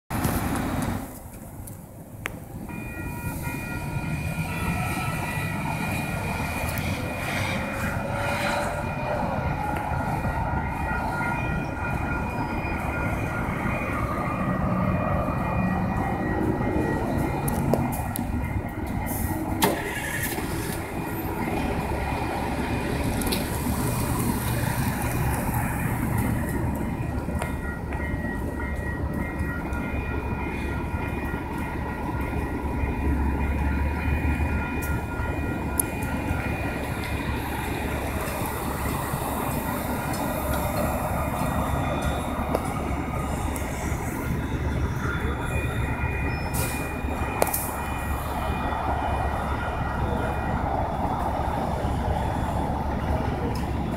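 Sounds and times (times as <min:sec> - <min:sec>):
car traffic: 0:00.1 - 0:53.9
light rail train passing: 0:00.1 - 0:53.9
rumble of wheels: 0:00.1 - 0:53.9
steady high tones: 0:02.4 - 0:53.9.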